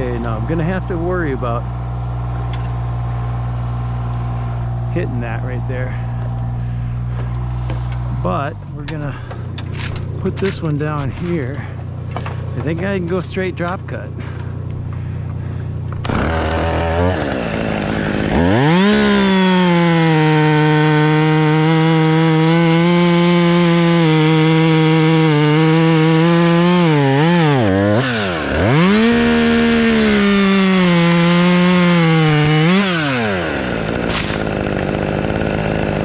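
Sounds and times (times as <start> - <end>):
chainsaw cutting tree trunk: 0.0 - 36.0.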